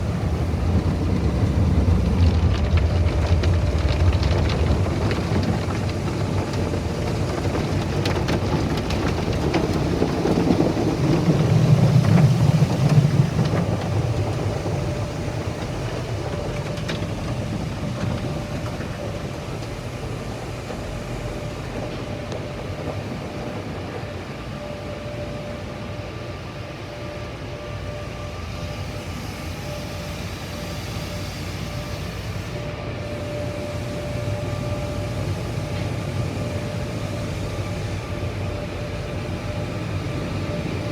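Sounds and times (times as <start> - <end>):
car wash machinery rumbling: 0.0 - 40.9.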